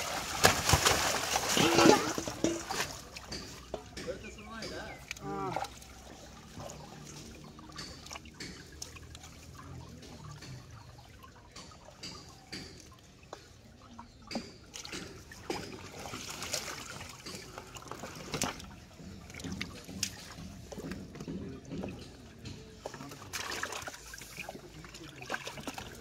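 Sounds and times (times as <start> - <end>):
small splashes and drips: 0.0 - 26.0
water sloshing and trickling: 0.0 - 26.0.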